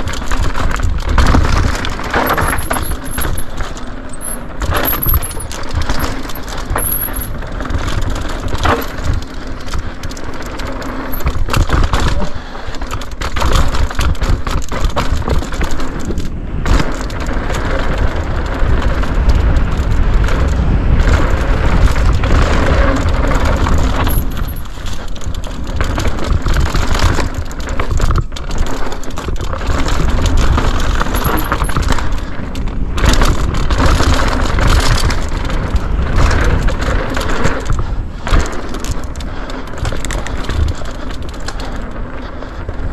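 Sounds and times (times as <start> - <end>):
bike chain slap: 0.0 - 42.2
bike frame rattle: 0.0 - 42.9
bike tyres rolling over rough ground: 0.0 - 42.9
wind rumble on microphone: 0.0 - 42.9.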